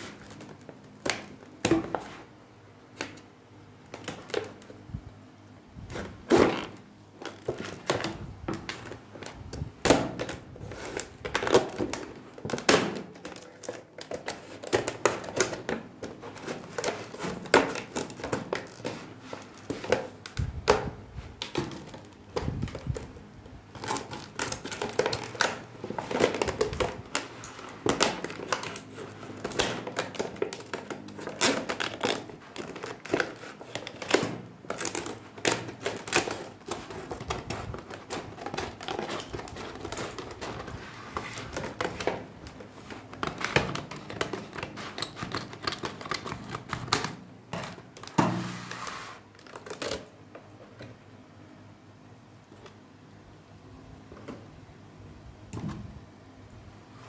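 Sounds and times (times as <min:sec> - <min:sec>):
plastic packaging crackling: 0:00.0 - 0:02.2, 0:05.9 - 0:50.8.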